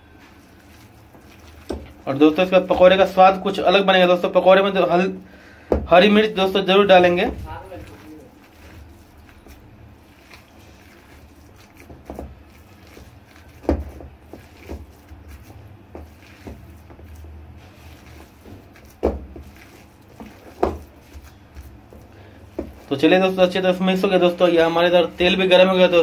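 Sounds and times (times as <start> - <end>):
hands squishing batter: 0.0 - 26.0.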